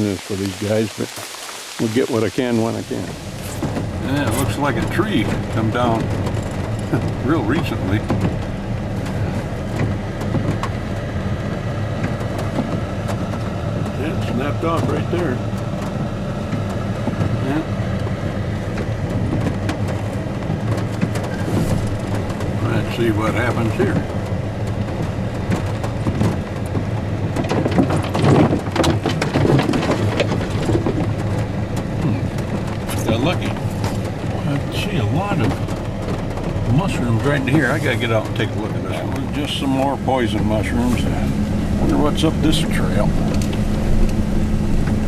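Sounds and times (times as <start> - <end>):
truck engine and road drone: 0.0 - 45.0
knocks and scrapes clatter: 3.0 - 45.0.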